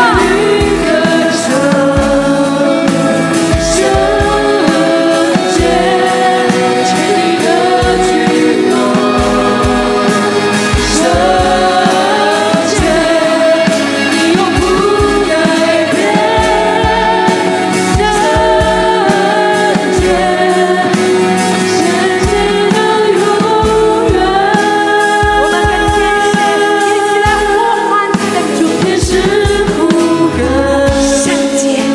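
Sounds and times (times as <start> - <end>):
bass drum beat: 0.0 - 27.7, 28.9 - 31.5
band accompaniment: 0.0 - 31.9
choir singing worship song: 0.0 - 31.9.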